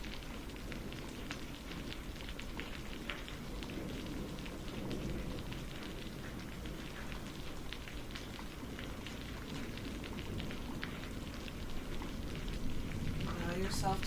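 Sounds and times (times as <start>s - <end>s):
low rain rumble: 0.0s - 14.0s
rain drops ticking on a surface: 0.0s - 14.0s.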